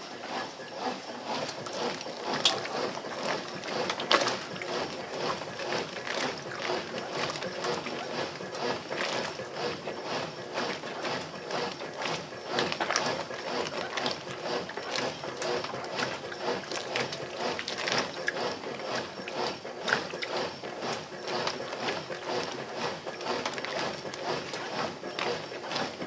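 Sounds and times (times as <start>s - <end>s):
washing machine running: 0.0s - 26.0s
water churning: 0.0s - 26.0s.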